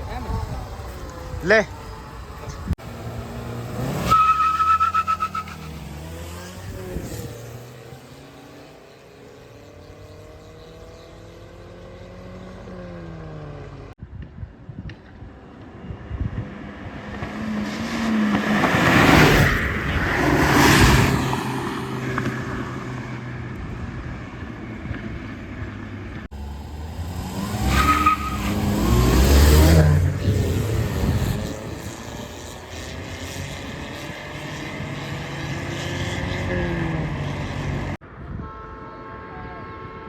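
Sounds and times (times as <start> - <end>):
car engines revving: 0.0 - 14.0, 15.6 - 38.0.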